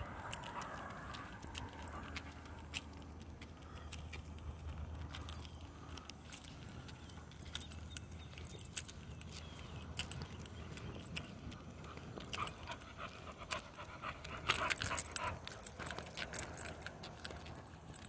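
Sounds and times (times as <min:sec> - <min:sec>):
dog panting: 0:00.0 - 0:07.3, 0:09.4 - 0:18.0.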